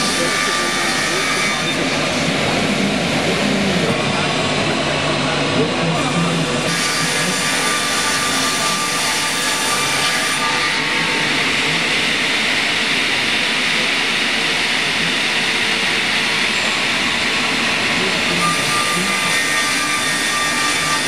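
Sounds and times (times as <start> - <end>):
circular saw blades cutting log: 0.0 - 4.3, 6.0 - 21.0.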